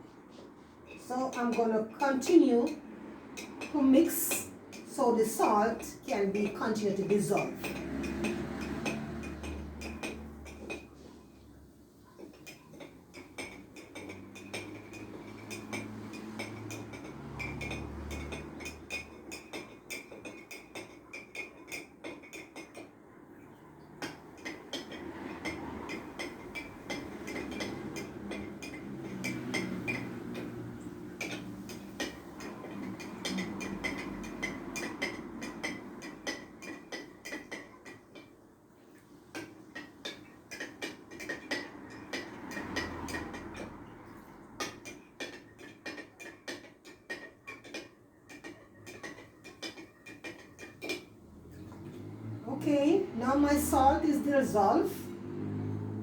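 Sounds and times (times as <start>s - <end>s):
spoon clinking against container: 3.4s - 11.2s, 12.0s - 38.4s, 39.0s - 52.1s.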